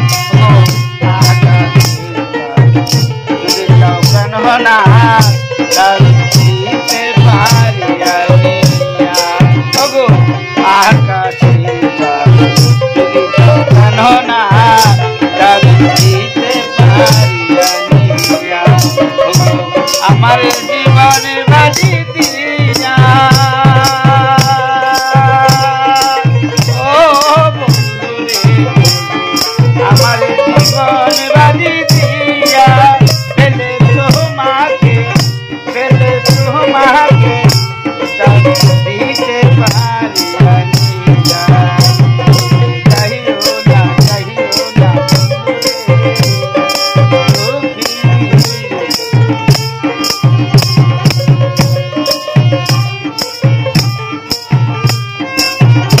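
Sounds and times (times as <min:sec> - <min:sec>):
hand drum beating: 0:00.0 - 0:56.0
rattle jingling: 0:00.0 - 0:56.0
wavering melody line: 0:00.0 - 0:56.0.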